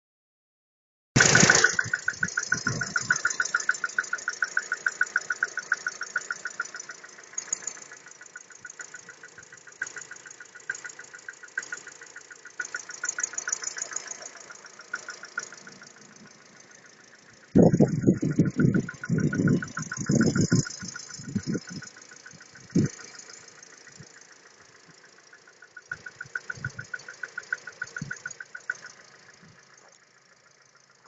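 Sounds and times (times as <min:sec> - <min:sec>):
car engine starting: 0:01.2 - 0:31.0
engine idling with rapid knock: 0:01.2 - 0:31.0.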